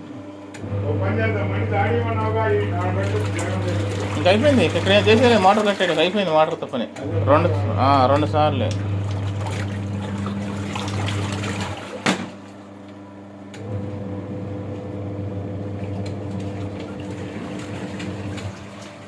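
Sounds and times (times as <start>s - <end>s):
washing machine motor humming: 0.0s - 19.0s
water churning in tub: 0.6s - 12.6s, 13.6s - 19.0s.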